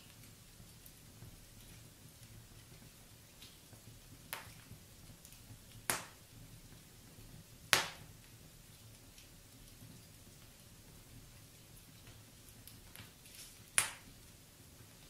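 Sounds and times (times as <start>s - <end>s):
burning logs popping: 0.0s - 15.0s
wood fire crackling: 0.0s - 15.0s
low rumble of flames: 0.1s - 15.0s.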